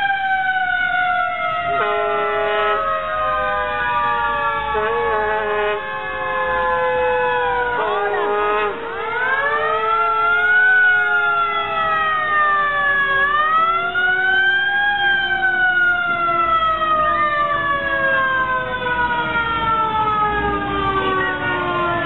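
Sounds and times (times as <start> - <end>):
lower siren tone gliding down: 0.0 - 22.0
siren wailing: 0.0 - 22.0.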